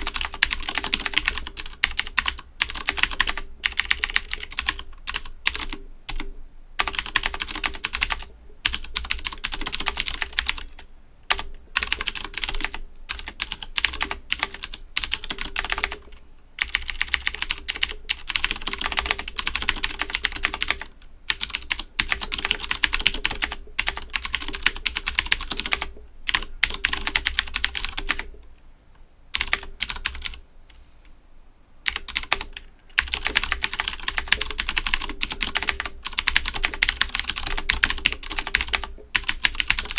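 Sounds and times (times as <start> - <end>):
mechanical keyboard typing clicks: 0.0 - 28.4, 29.4 - 30.4, 31.9 - 39.9.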